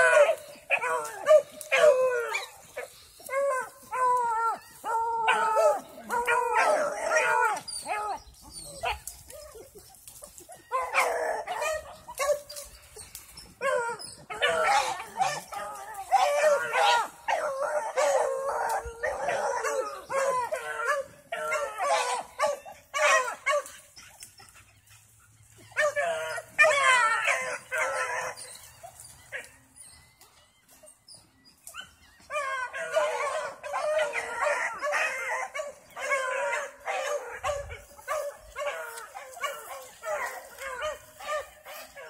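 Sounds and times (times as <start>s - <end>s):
dogs baying and howling: 0.0s - 42.0s.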